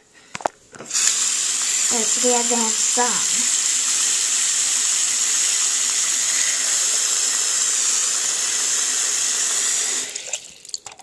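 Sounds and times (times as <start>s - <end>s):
water pouring onto plastic bricks: 0.9s - 11.0s.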